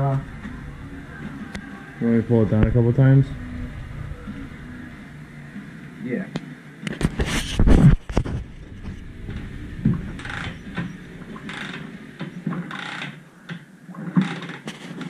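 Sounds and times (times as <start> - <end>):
engine turning over: 0.0 - 6.0, 7.0 - 13.1.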